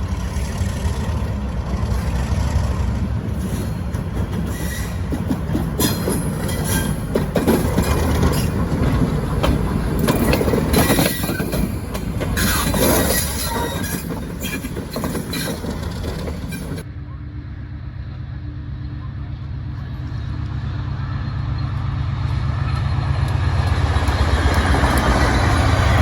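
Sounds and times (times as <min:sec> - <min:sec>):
wheels clicking over rail joints: 0:00.0 - 0:16.9, 0:21.3 - 0:26.0
train rumbling past: 0:00.0 - 0:26.0.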